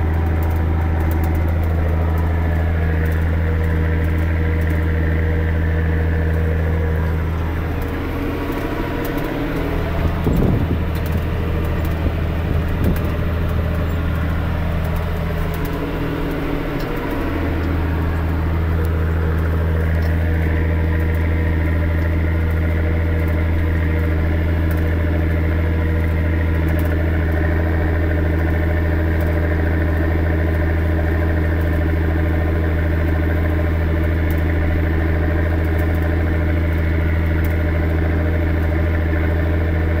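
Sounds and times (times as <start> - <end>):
tractor diesel engine drone: 0.0 - 40.0.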